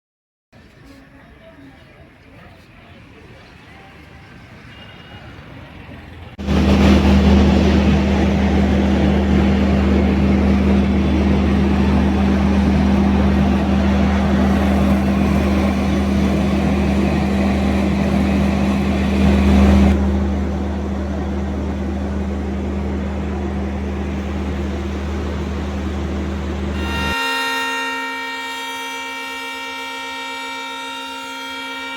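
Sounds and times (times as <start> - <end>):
locomotive engine hum: 0.6 - 31.9.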